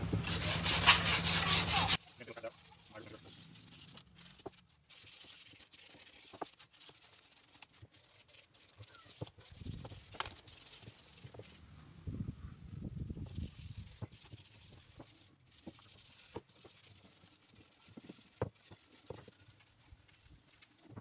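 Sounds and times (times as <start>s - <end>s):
sandpaper rasping on wood: 0.2s - 11.6s, 13.2s - 21.0s.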